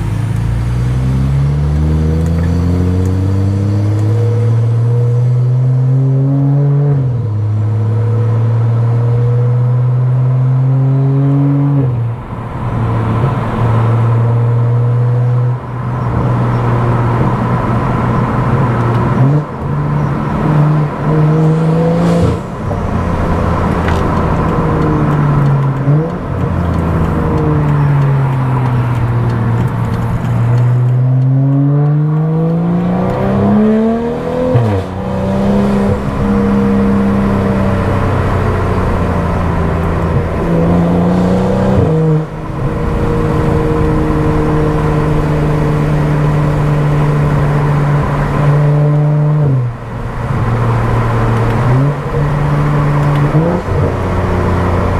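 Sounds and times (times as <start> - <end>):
car engine with loud exhaust: 0.0 - 54.9.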